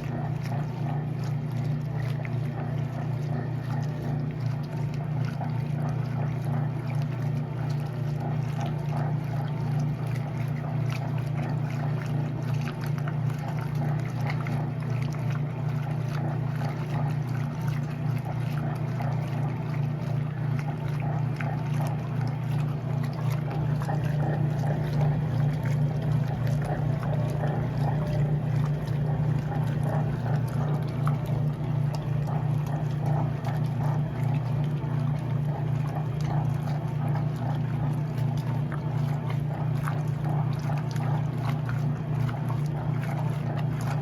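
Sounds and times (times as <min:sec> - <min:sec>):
washing machine humming: 0:00.0 - 0:44.0
water splashing in drum: 0:00.0 - 0:44.0.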